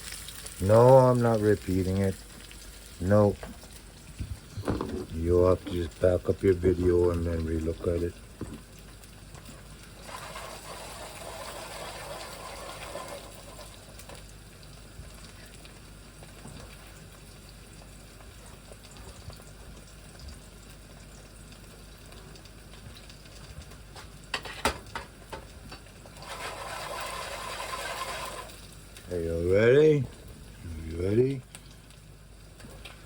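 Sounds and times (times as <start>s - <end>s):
eggs sizzling in a pan: 0.0s - 33.0s.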